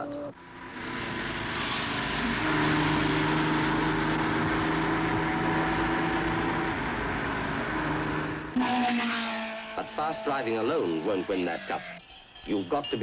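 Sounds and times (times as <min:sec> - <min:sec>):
road noise: 0:00.0 - 0:13.0
rally car engine running hard: 0:00.4 - 0:12.0.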